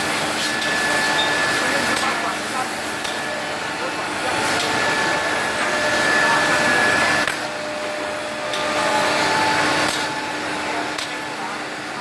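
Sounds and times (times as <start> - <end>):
cnc router machining wood: 0.0 - 12.0.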